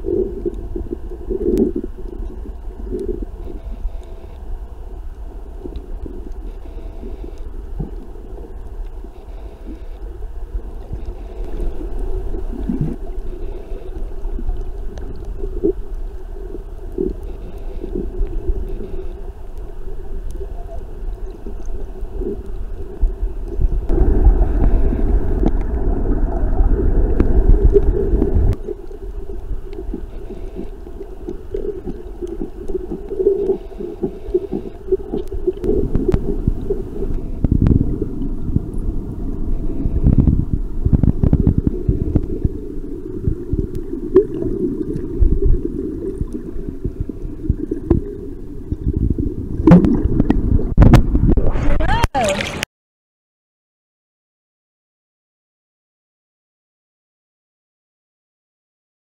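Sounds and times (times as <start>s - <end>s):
muffled underwater rumble and gurgling: 0.0s - 52.6s.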